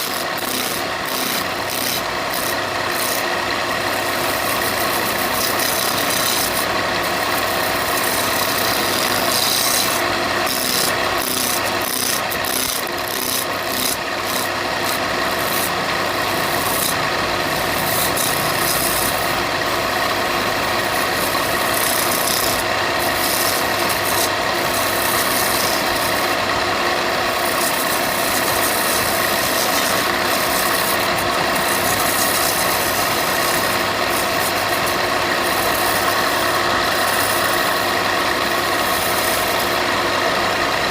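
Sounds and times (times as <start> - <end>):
rasping grind on wood: 0.0 - 19.6, 20.2 - 40.0
power tool motor running: 0.0 - 40.9.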